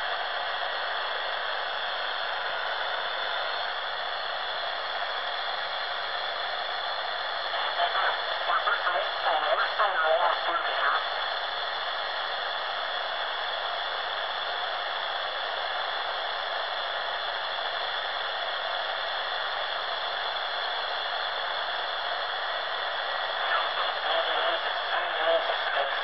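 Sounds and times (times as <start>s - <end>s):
radio static hiss: 0.0s - 26.0s.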